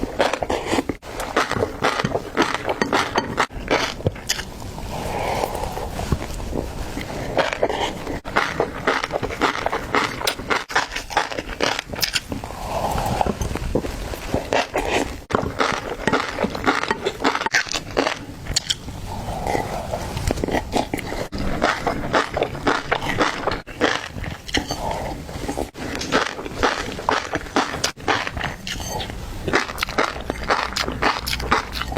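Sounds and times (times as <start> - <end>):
fish roe being chewed: 0.0 - 31.9
wet mouth noises: 0.0 - 31.9.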